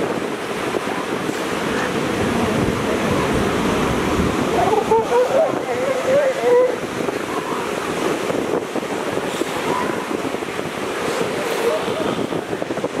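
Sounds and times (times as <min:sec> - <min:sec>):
surf: 0:00.0 - 0:13.0
wind on microphone: 0:00.0 - 0:13.0.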